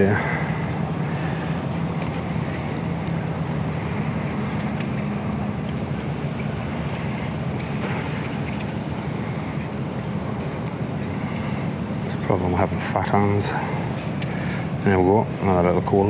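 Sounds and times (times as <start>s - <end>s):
higher engine tone: 0.0s - 15.4s
low engine drone: 0.0s - 16.0s.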